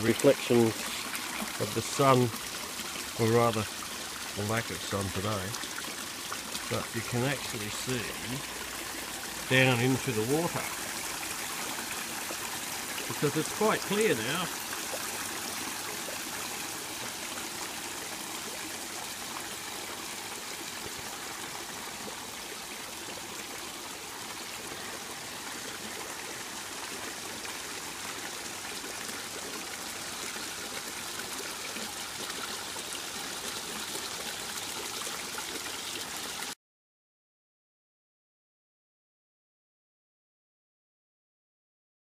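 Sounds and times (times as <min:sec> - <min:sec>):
water splashing into pond: 0:00.0 - 0:36.6.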